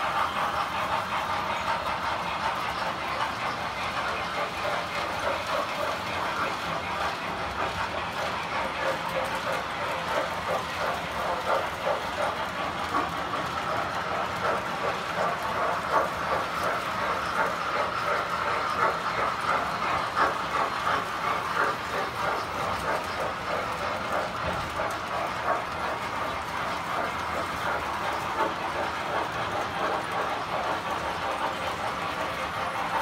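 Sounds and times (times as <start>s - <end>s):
toy train wheels clattering: 0.0s - 33.0s.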